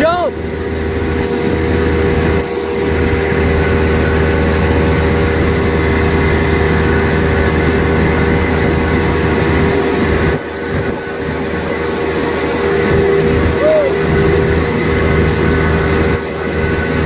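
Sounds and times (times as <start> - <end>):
boat engine running: 0.0 - 17.0
churning wake rushing: 0.0 - 17.0.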